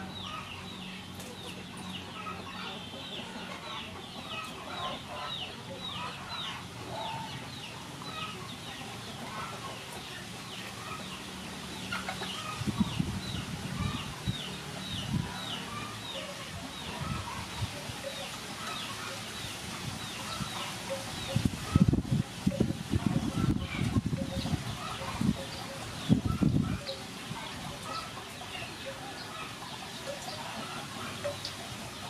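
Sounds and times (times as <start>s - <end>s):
chickens clucking and peeping: 0.0s - 32.0s.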